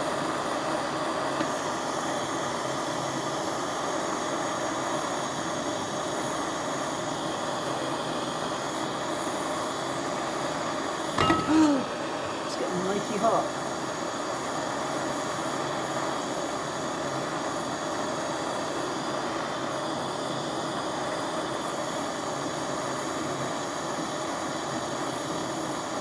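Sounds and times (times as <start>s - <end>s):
gas torch flame roaring: 0.0s - 26.0s.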